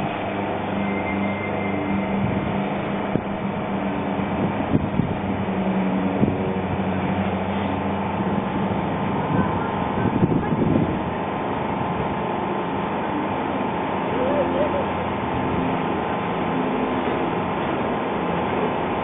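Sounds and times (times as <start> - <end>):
train mechanical rumble: 0.0 - 19.0.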